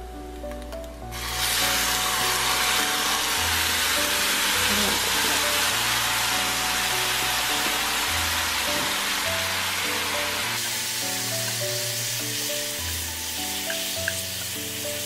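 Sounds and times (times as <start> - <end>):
sauce sizzling in frying pan: 1.1 - 15.0.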